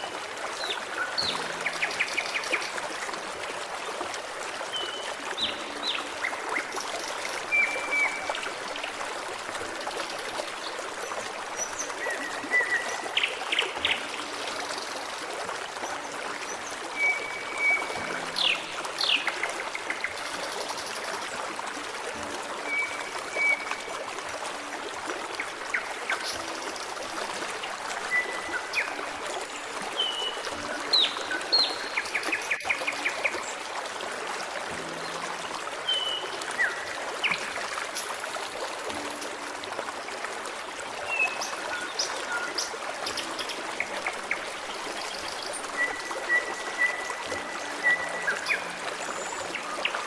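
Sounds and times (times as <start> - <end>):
stream babbling: 0.0 - 50.0.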